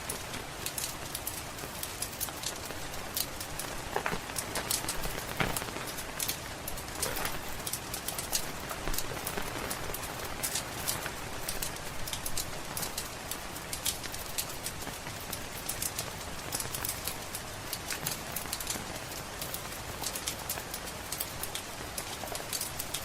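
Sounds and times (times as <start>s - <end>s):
rain hiss: 0.0s - 23.0s
wood fire crackling: 0.0s - 23.0s.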